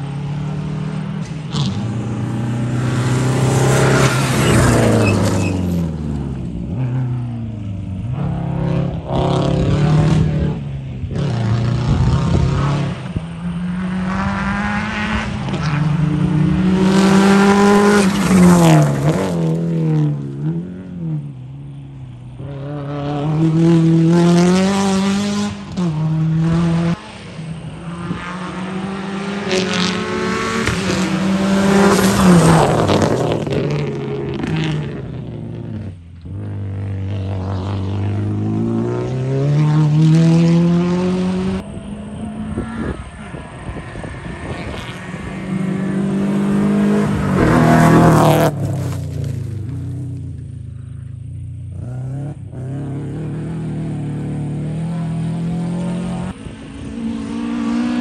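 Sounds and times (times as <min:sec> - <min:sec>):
rally cars racing past: 0:00.0 - 0:58.0.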